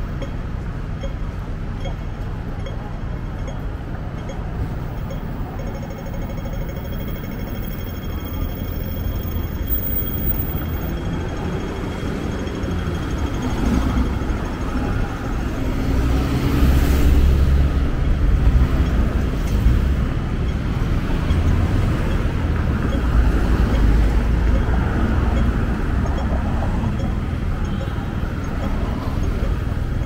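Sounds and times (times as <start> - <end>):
vehicles passing with engine rumble: 0.0 - 30.0.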